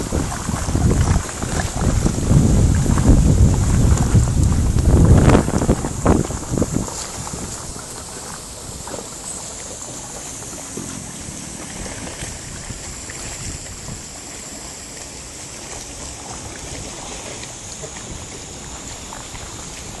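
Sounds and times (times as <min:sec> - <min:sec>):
water rushing and splashing: 0:00.0 - 0:20.0.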